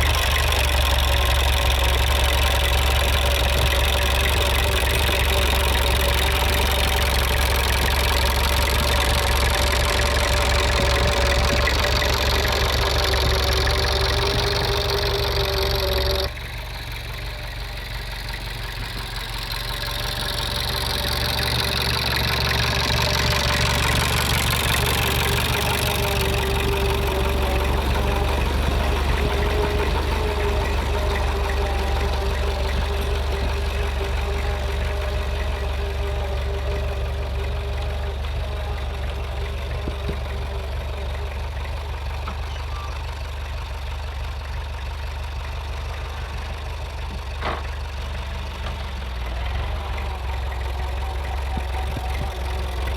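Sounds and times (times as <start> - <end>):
tractor engine droning: 0.0 - 52.9.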